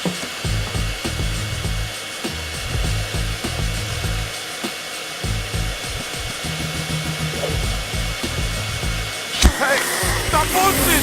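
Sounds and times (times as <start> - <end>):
vacuum cleaner motor running: 0.0 - 11.0
bass-heavy music: 0.4 - 4.4, 5.2 - 9.2, 10.0 - 11.0.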